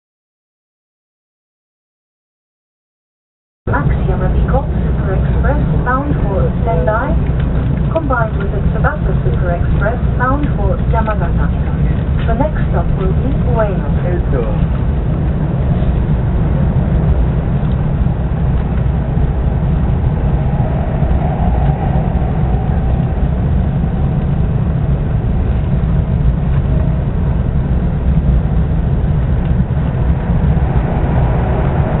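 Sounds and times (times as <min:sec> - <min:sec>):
train cabin rumble with hiss: 0:03.7 - 0:32.0.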